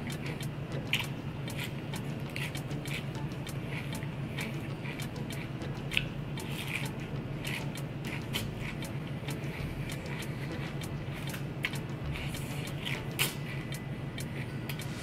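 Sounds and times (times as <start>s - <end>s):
steady low hum: 0.0s - 15.0s
wet chewing and squishing: 0.9s - 15.0s.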